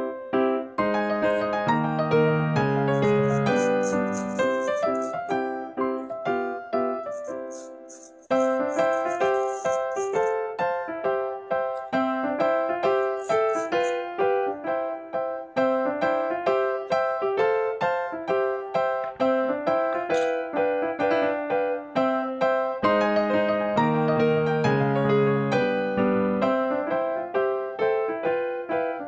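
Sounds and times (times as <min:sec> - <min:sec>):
simple keyboard melody: 0:00.0 - 0:29.0.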